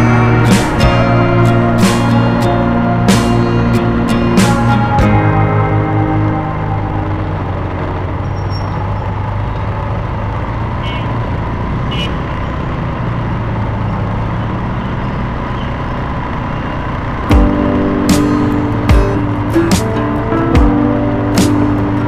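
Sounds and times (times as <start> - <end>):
road and wind noise: 0.0 - 22.0
scooter engine drone: 0.0 - 22.0.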